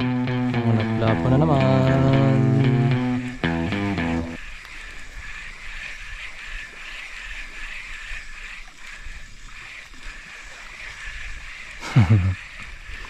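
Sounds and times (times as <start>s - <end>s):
constant high hum: 0.0s - 13.0s.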